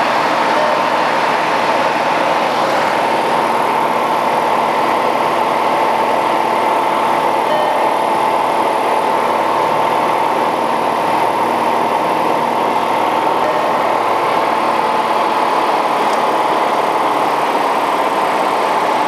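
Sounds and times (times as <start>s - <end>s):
airplane engine and propeller: 0.0s - 19.0s.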